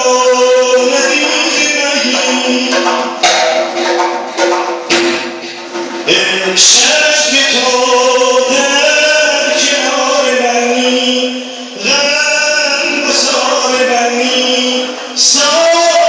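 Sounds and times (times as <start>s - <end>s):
man singing wavering: 0.0s - 3.5s, 6.0s - 16.0s.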